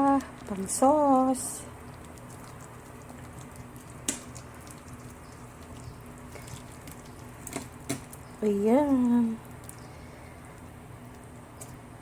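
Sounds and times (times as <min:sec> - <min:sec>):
sauce wet sounds: 0:00.0 - 0:11.9
steady low hum: 0:00.0 - 0:12.0.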